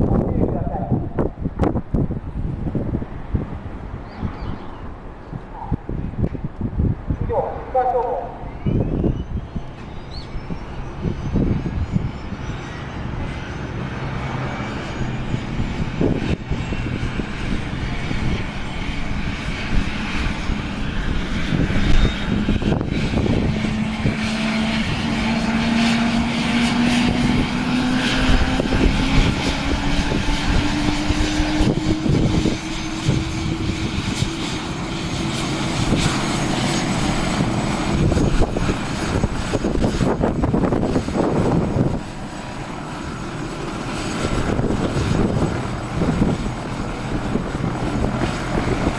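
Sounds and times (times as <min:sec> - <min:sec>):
helicopter turbine and rotor: 0:00.0 - 0:48.9
wind buffeting microphone: 0:00.0 - 0:48.9.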